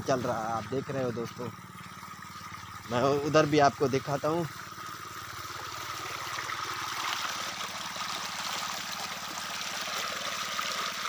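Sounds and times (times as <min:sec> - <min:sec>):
pump engine running: 0:00.0 - 0:11.0
water gushing from pipe: 0:00.0 - 0:11.0.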